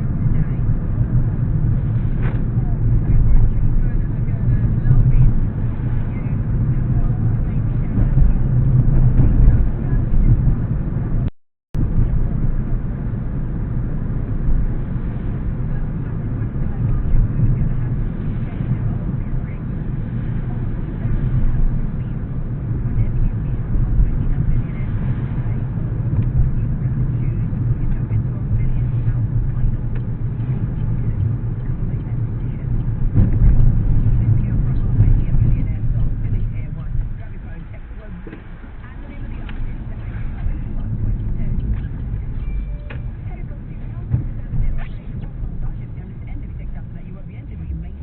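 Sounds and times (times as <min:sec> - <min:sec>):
road and engine rumble in car: 0:00.0 - 0:48.0.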